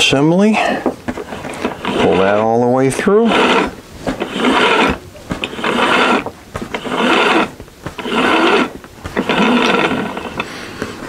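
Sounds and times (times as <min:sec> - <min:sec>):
rope rasping through pulleys: 0:00.6 - 0:11.0.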